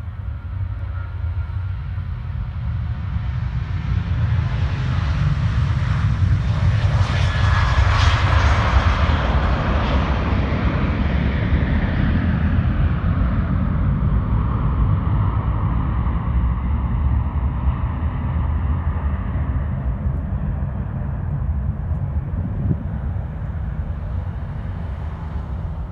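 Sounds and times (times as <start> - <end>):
jet airliner taking off: 0.0 - 25.9
steady low rumble: 1.4 - 25.9.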